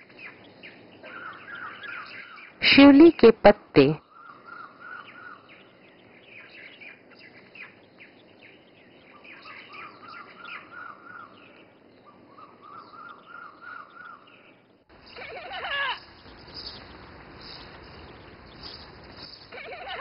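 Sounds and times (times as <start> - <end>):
bird trill: 0.0 - 2.6, 4.0 - 20.0.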